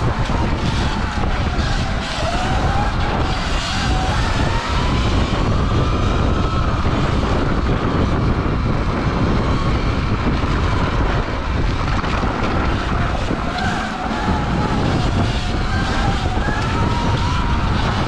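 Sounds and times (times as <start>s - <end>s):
electric motor whine: 0.0s - 18.0s
wind buffeting on microphone: 0.0s - 18.0s.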